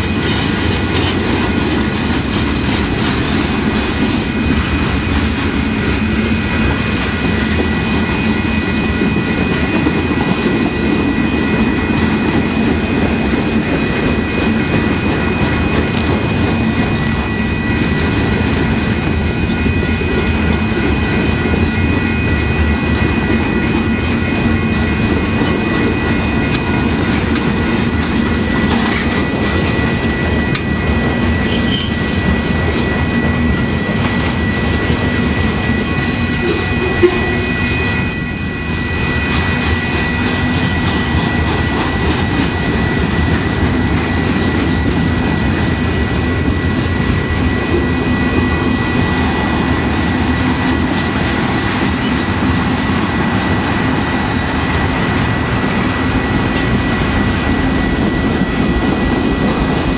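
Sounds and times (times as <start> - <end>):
freight train wheels rumbling: 0.0 - 59.9
high whine: 0.0 - 59.9.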